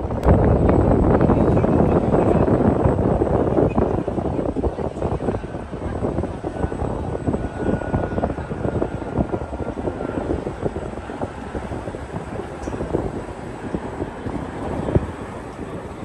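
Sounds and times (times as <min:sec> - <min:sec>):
boat low rumble: 0:00.0 - 0:16.0
wind buffeting microphone: 0:00.0 - 0:16.0.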